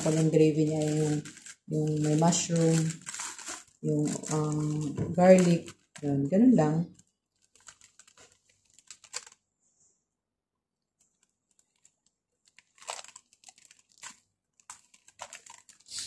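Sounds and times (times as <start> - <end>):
plastic bag crinkling: 0.0 - 9.5, 11.0 - 16.0.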